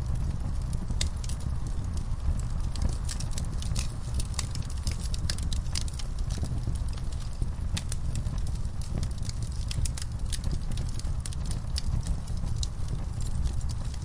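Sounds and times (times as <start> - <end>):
low rumble of flames: 0.0 - 14.0
sharp pops of fire: 0.0 - 14.0
wood fire crackling: 0.0 - 14.0.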